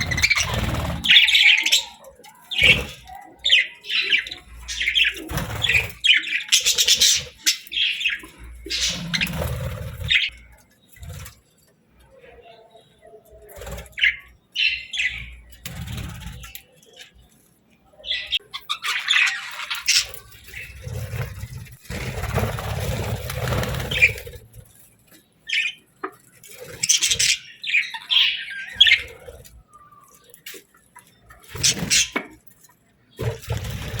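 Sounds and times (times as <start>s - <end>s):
budgerigars chirping and squawking: 0.0s - 11.4s, 12.1s - 17.3s, 17.9s - 34.0s.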